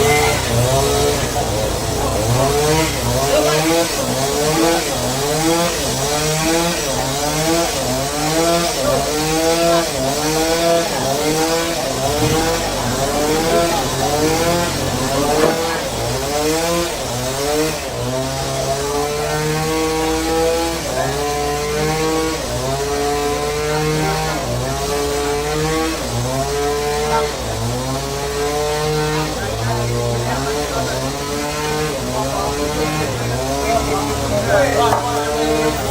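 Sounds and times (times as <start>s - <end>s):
saw petrol engine under load: 0.0s - 35.9s.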